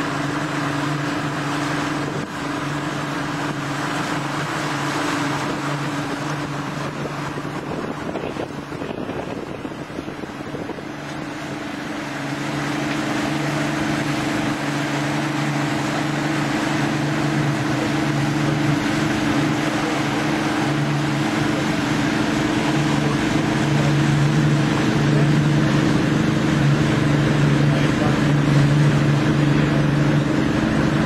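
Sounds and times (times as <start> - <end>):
outboard motor running: 0.0 - 31.0
rushing water: 0.0 - 31.0
wind: 0.0 - 31.0.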